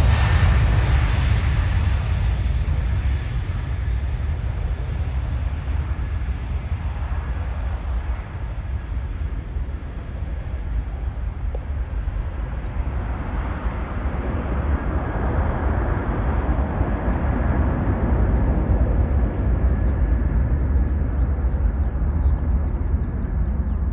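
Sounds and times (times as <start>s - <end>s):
jet engines at takeoff power: 0.0s - 23.9s.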